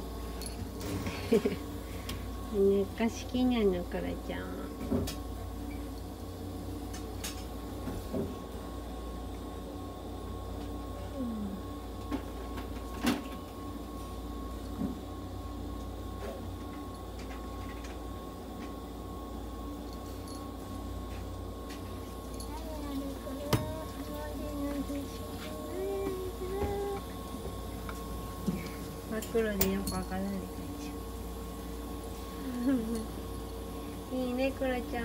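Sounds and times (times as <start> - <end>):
low machine hum with whine: 0.0 - 35.0.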